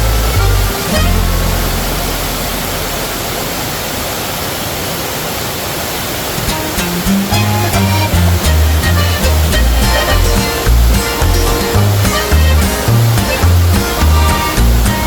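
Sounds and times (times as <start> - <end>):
background music with bass: 0.0 - 3.6, 6.6 - 15.0
waterfall rushing: 0.0 - 15.0.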